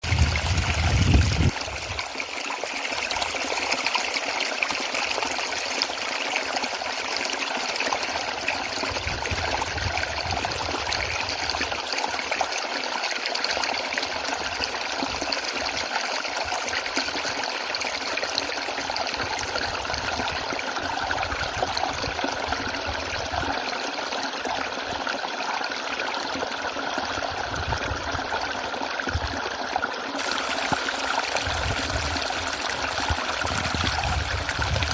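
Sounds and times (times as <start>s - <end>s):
waterfall splashing and trickling: 0.0s - 34.9s.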